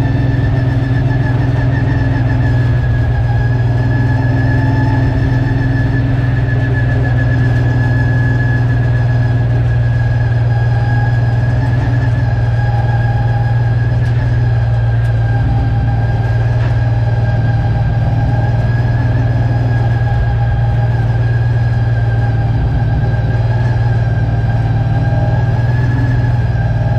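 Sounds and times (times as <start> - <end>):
car engine droning: 0.0 - 26.9.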